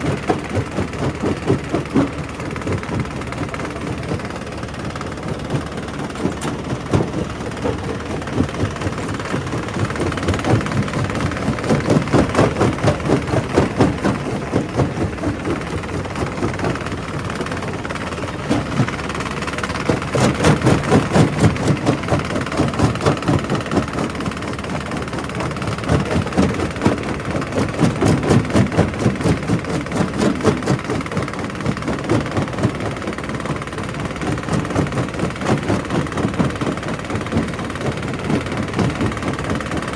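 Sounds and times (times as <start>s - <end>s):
rock crusher rumbling: 0.0s - 39.9s.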